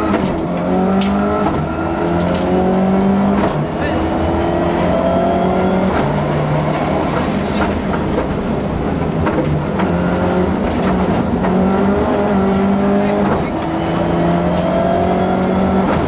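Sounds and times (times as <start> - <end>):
rally car engine driven hard: 0.0 - 16.0.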